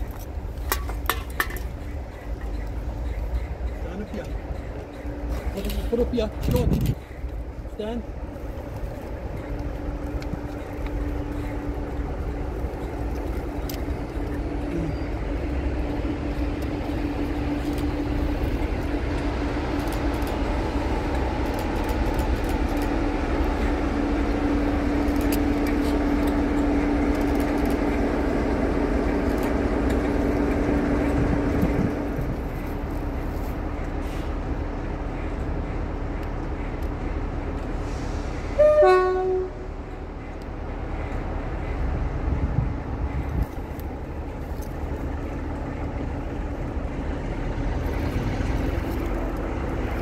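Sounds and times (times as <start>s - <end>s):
diesel locomotive engine drone: 0.0s - 50.0s.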